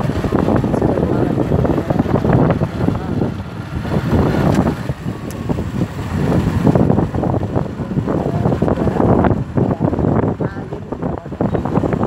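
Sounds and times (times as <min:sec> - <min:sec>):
vehicle engine running: 0:00.0 - 0:12.0
wind buffeting microphone: 0:00.0 - 0:12.0.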